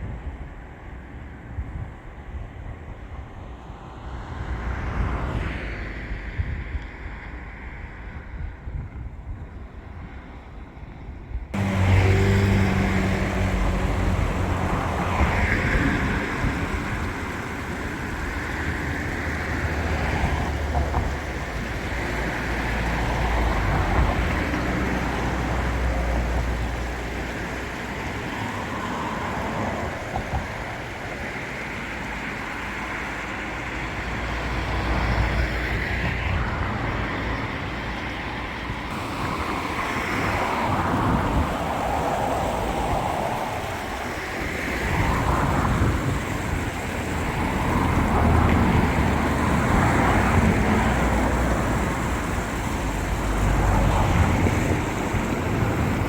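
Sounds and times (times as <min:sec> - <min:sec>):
outdoor rushing noise: 0:00.0 - 0:56.0
wind buffeting microphone: 0:04.6 - 0:56.0.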